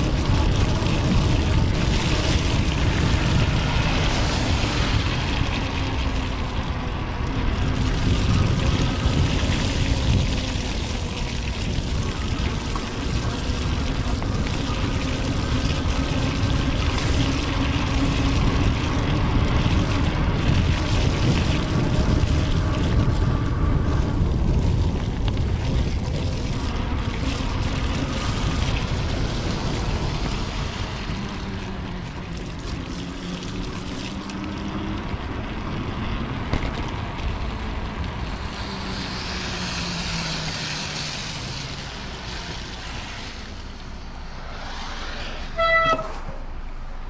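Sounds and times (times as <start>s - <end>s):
wind buffeting microphone: 0.0s - 43.4s
bicycle tyres hissing on wet pavement: 0.0s - 47.0s
road traffic passing: 0.0s - 47.0s.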